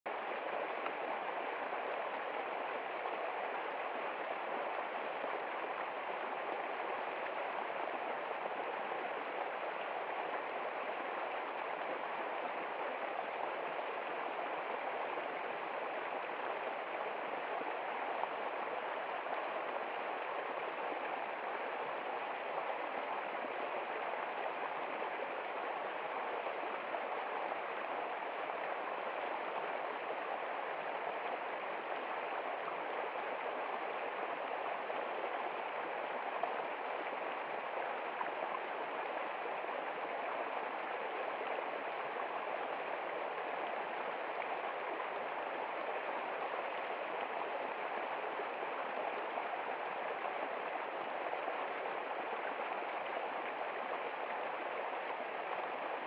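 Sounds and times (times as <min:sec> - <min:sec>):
stream rushing over rocks: 0:00.1 - 0:56.0.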